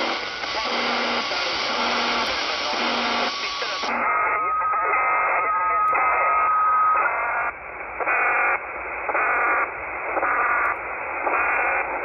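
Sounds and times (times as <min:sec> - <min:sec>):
radio receiver hiss: 0:00.0 - 0:12.0.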